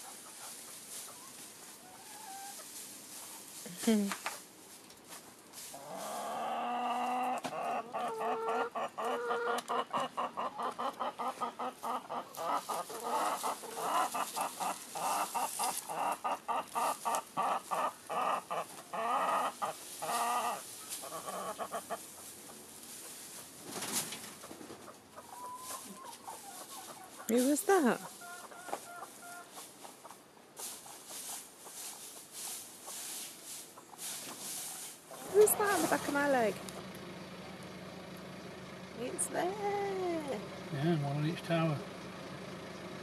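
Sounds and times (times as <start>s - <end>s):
hen clucking: 0.0s - 3.5s, 5.8s - 33.1s, 33.7s - 37.6s.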